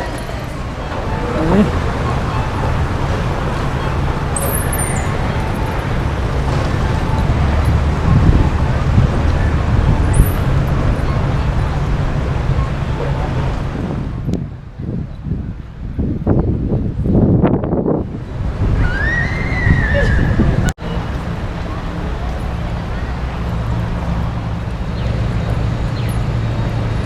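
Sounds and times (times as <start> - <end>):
passing cars rumble: 0.0 - 27.0.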